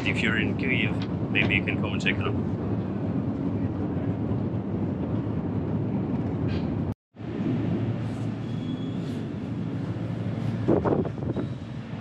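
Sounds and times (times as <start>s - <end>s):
escalator machinery rumble: 0.0s - 12.0s.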